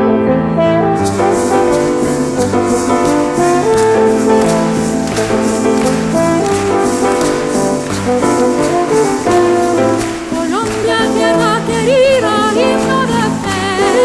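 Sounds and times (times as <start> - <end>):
instrumental music sustained notes: 0.0 - 14.0.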